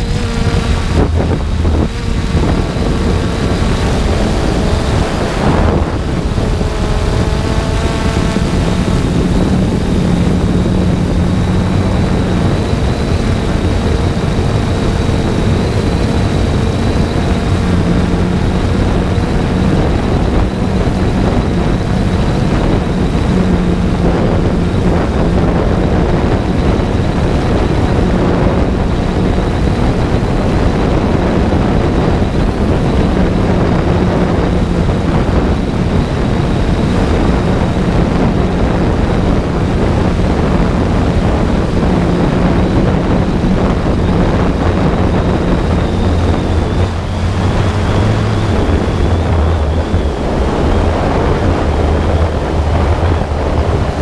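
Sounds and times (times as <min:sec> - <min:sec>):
quadcopter motors humming: 0:00.0 - 0:54.0
wind on microphone: 0:00.0 - 0:54.0.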